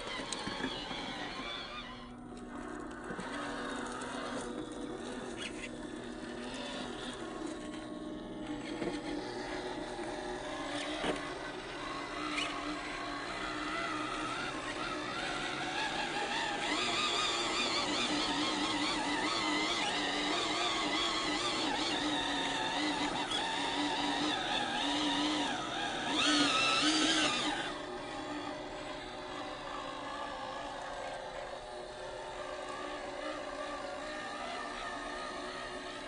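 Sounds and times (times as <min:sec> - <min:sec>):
rc car motor whining: 0:00.0 - 0:36.0.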